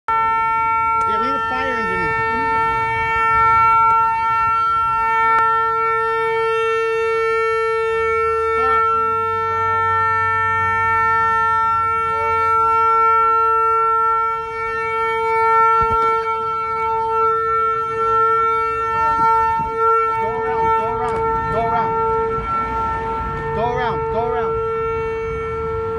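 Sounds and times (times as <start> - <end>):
vehicle horn blaring: 0.1 - 25.9.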